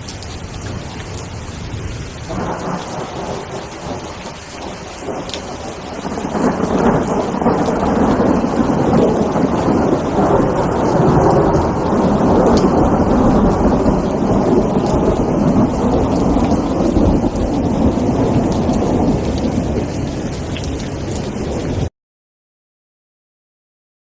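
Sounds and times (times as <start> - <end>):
steady rain: 0.0 - 21.9
low rumble of thunder: 0.5 - 21.9.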